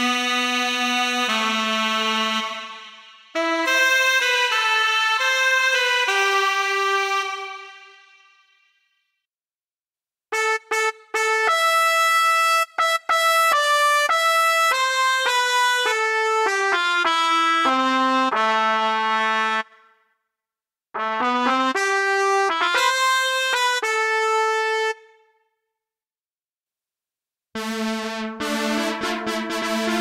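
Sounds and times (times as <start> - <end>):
trumpet melody: 0.0 - 8.6, 10.3 - 19.8, 21.0 - 25.2, 27.6 - 30.0.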